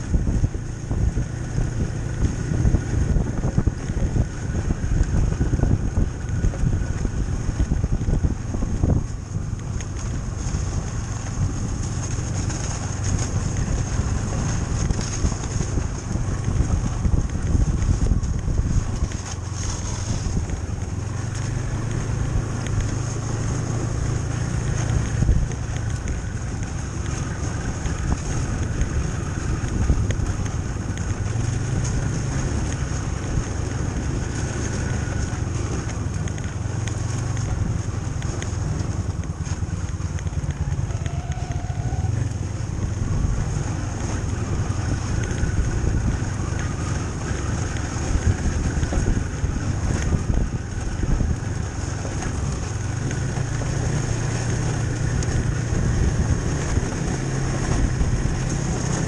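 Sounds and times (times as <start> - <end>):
snowmobile engine droning: 0.0 - 59.0
wind noise: 0.0 - 59.0.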